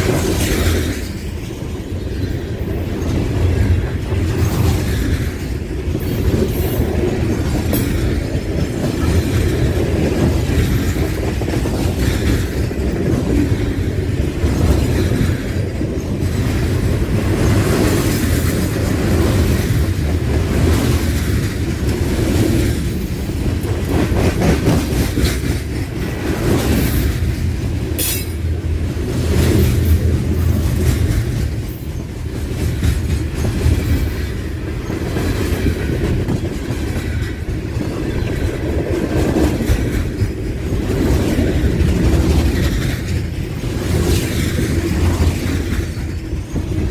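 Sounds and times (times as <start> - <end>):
freight train rumbling past: 0.0 - 46.9
steel wheels clattering on rails: 0.0 - 46.9.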